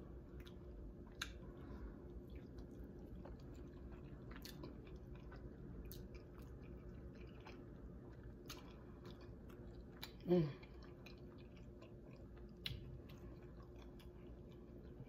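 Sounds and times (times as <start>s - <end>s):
person chewing: 0.2s - 15.0s.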